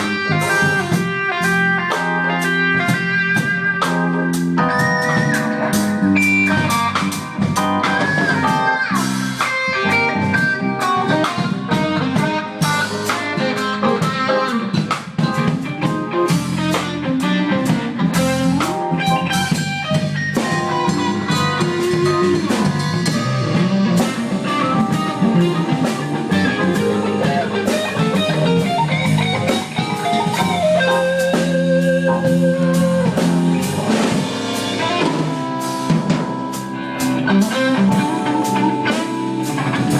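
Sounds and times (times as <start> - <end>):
drum kit: 0.0 - 39.9
electric guitar lead: 0.0 - 39.9.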